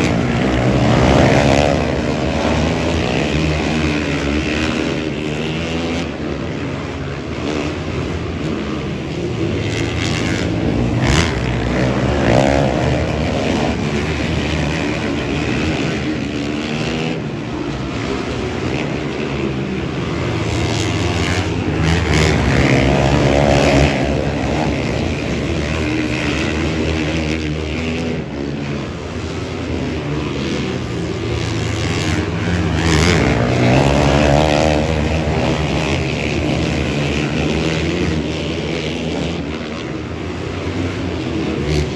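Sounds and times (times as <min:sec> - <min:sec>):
racing engines revving past: 0:00.0 - 0:41.9.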